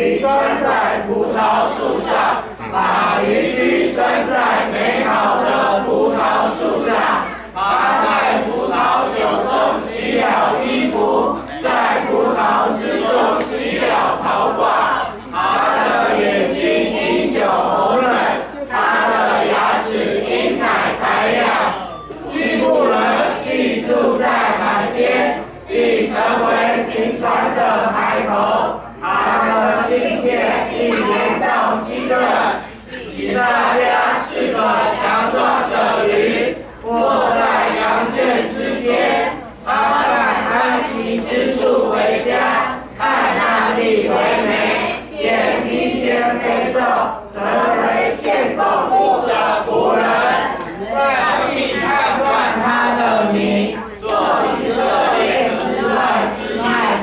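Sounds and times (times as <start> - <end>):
group reciting in unison: 0.0 - 57.0.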